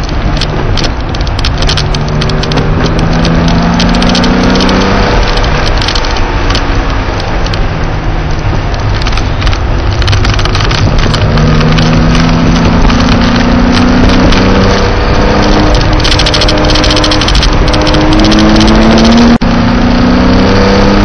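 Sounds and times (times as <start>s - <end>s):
car engine accelerating: 0.0s - 21.0s
wind and road noise: 0.0s - 21.0s.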